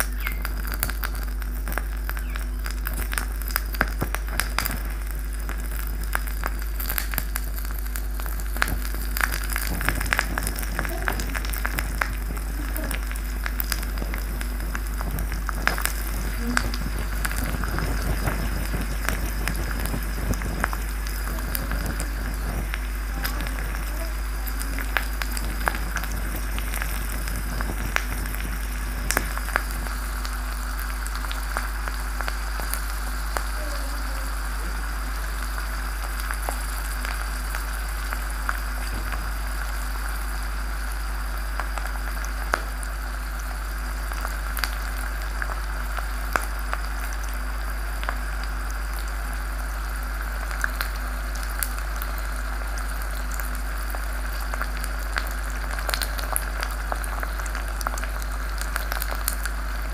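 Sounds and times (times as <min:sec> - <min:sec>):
hot oil sizzling: 0:00.0 - 0:59.9
popcorn crackling and popping: 0:00.0 - 0:59.9.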